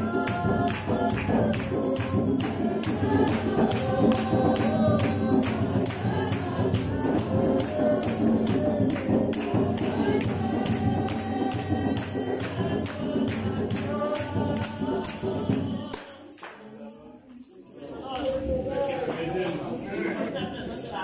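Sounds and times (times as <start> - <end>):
tambourine beat: 0.0 - 20.1
congregation singing: 0.0 - 21.0.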